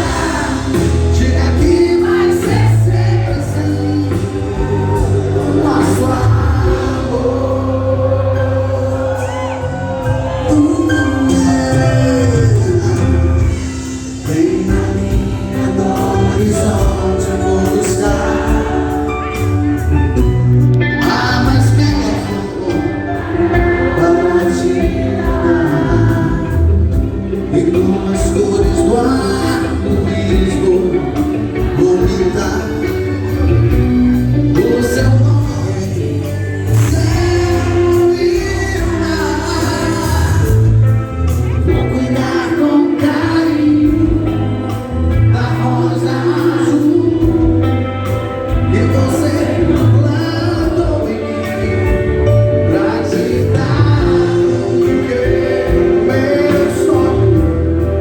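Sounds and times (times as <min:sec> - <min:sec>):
gospel song with band and singing: 0:00.0 - 0:58.0.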